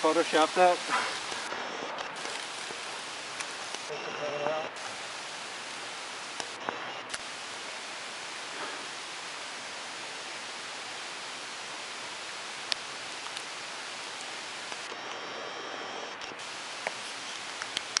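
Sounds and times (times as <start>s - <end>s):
rain falling: 0.0s - 15.2s, 15.8s - 18.0s.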